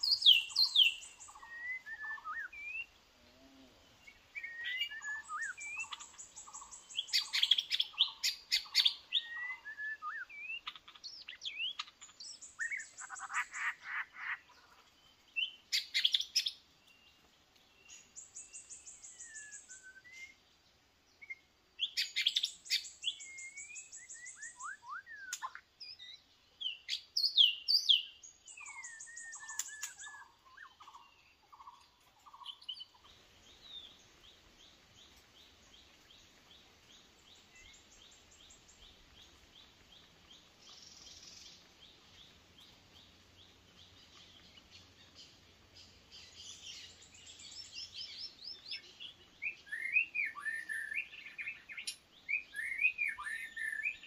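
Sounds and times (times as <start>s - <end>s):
bird singing whistles and trills: 0.0s - 3.0s, 4.0s - 14.4s, 15.2s - 20.6s, 21.2s - 54.0s.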